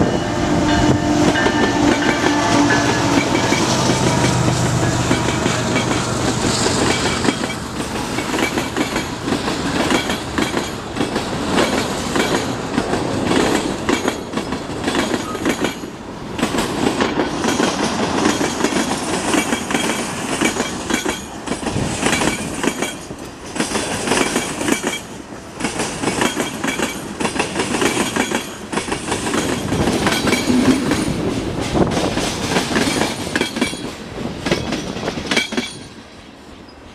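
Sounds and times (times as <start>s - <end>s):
train wheels clattering over crossing: 0.0s - 36.1s.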